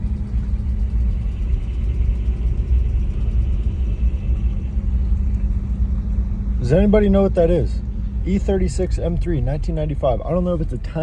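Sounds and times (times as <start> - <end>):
car engine running: 0.0 - 11.0
rapid light engine ticking: 0.0 - 11.0.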